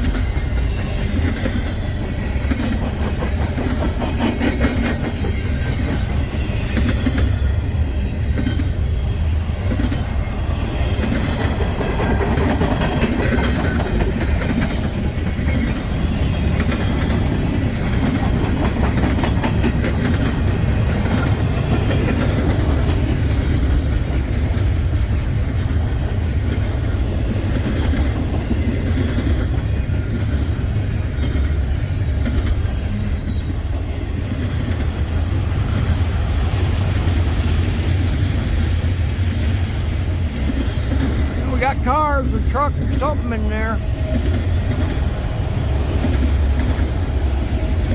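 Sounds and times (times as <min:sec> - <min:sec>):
wheels clacking over rails: 0:00.0 - 0:09.0, 0:09.6 - 0:47.9
train cars rumbling past: 0:00.0 - 0:47.9.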